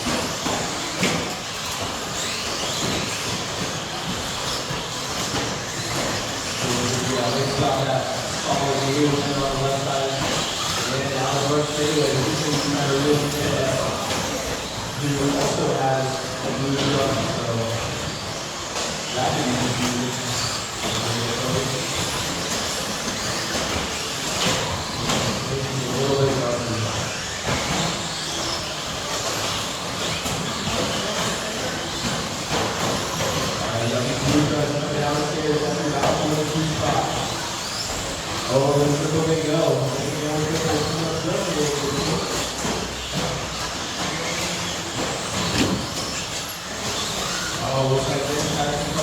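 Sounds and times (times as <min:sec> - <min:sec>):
rc trucks racing: 0:00.0 - 0:49.0.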